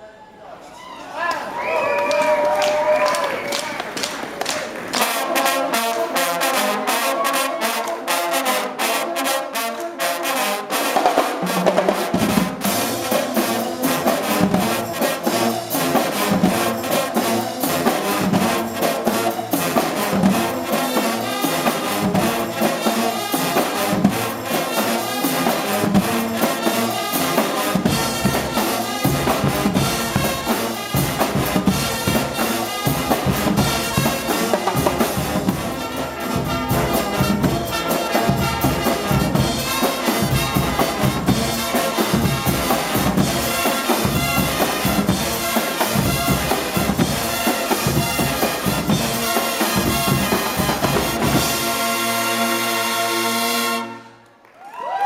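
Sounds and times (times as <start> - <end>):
drums: 1.5 - 54.1
brass band playing loudly: 1.6 - 54.5
low bass brass: 5.0 - 54.2.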